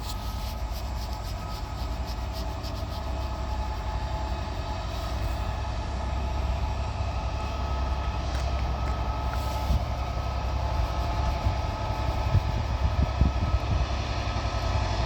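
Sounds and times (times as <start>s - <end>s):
steady whining tones: 0.0s - 15.0s
train rumbling past: 0.0s - 15.0s.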